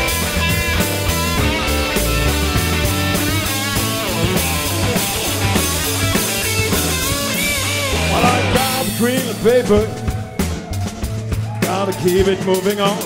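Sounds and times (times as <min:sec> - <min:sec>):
electric guitar bending notes: 0:00.0 - 0:11.9
live rock band playing: 0:00.0 - 0:13.0.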